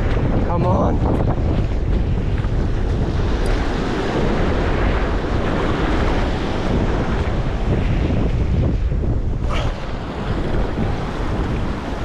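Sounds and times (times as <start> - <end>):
ocean surf against rocks: 0.0 - 12.0
wind buffeting microphone: 0.0 - 12.0.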